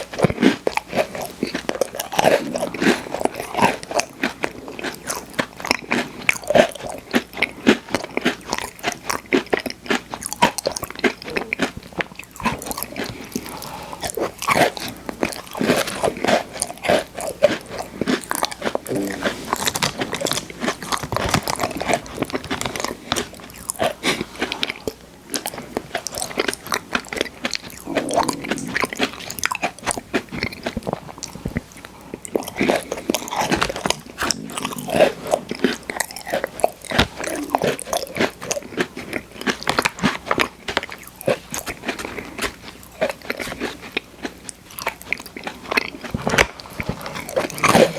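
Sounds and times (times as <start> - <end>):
crunchy biting and chewing cookies: 0.0 - 47.9.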